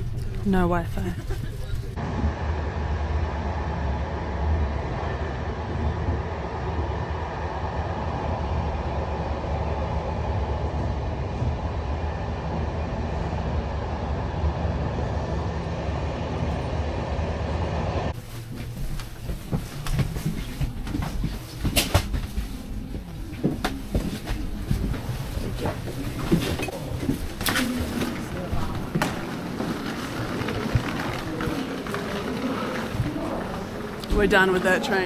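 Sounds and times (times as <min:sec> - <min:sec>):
train carriage rumbling: 0:00.0 - 0:35.0.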